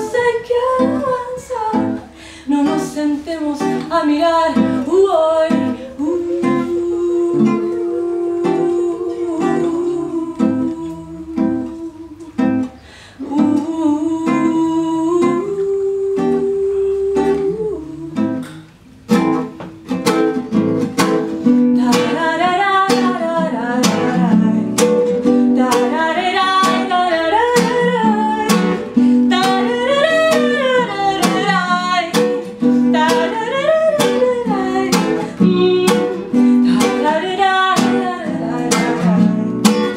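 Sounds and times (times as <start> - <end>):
person wordless singing: 0.0 - 12.4, 13.2 - 18.4, 21.7 - 39.9
strummed acoustic guitar: 0.0 - 39.9.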